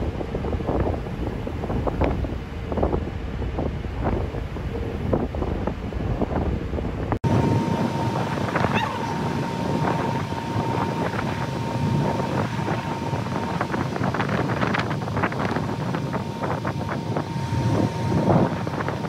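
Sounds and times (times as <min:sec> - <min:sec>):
crackles of wind or spray: 0:00.0 - 0:19.0
low ship rumble: 0:00.0 - 0:19.0
wake rushing along hull: 0:00.0 - 0:19.0
wind buffeting microphone: 0:00.0 - 0:19.0.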